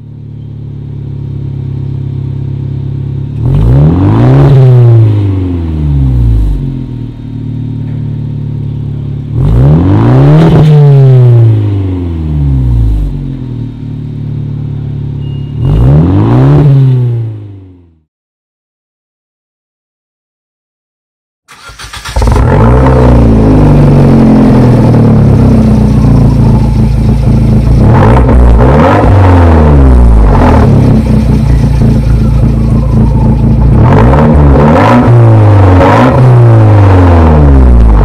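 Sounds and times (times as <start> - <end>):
car engine idling and revving: 0.0 - 18.1, 21.5 - 38.0.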